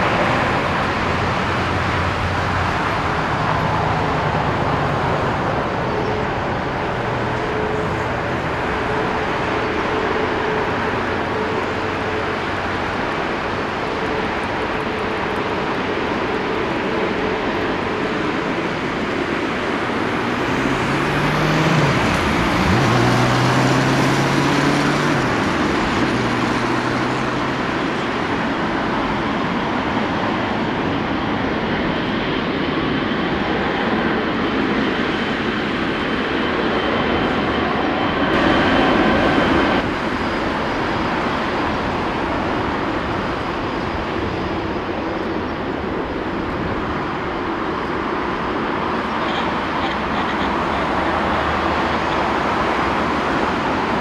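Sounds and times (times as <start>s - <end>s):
jet engines rushing: 0.0s - 54.0s.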